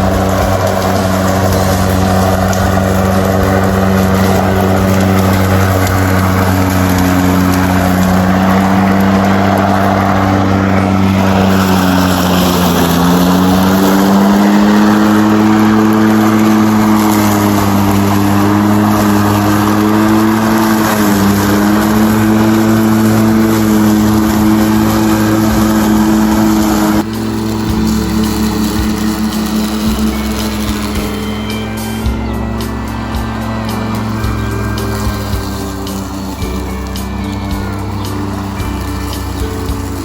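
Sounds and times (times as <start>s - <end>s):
electric lawn mower cutting grass: 0.0s - 40.0s.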